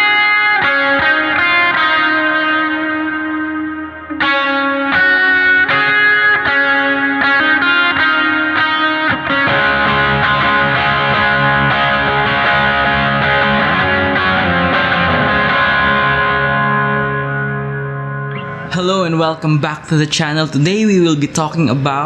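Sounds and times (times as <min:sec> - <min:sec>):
electric guitar notes and chords: 0:00.0 - 0:22.0.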